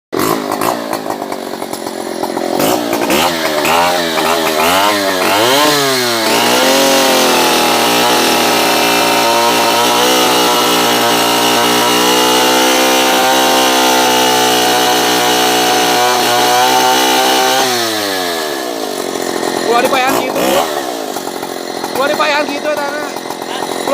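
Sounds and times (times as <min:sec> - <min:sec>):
chainsaw engine revving: 0:00.2 - 0:23.9.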